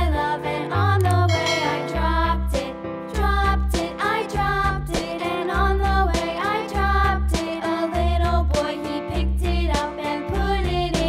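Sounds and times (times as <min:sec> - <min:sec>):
cheerful children's music: 0:00.0 - 0:11.0.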